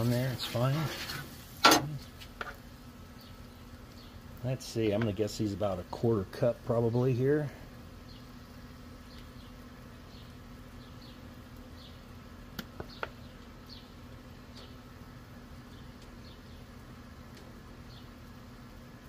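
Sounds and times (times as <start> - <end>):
batter sizzling on griddle: 0.0 - 19.0
gas burners humming: 0.0 - 19.0.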